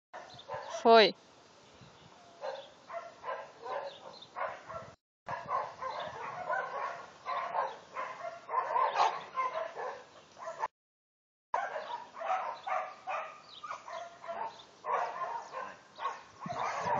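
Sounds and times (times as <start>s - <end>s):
dog barking: 0.2s - 0.9s, 2.4s - 10.7s, 11.5s - 16.9s.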